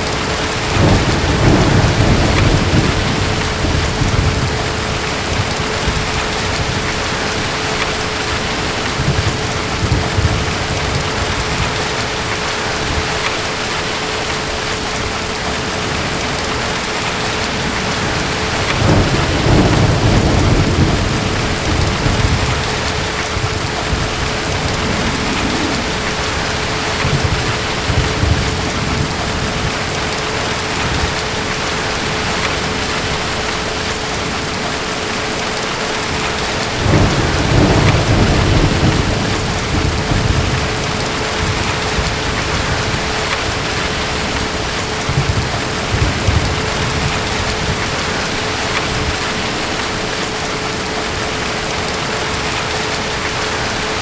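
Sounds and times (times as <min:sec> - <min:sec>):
distant thunder rumbling: 0:00.0 - 0:54.0
heavy rain: 0:00.0 - 0:54.0.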